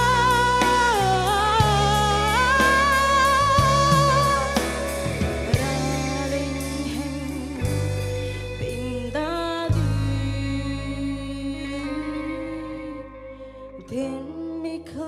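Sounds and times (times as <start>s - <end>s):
live band with drums and bass: 0.0s - 12.4s.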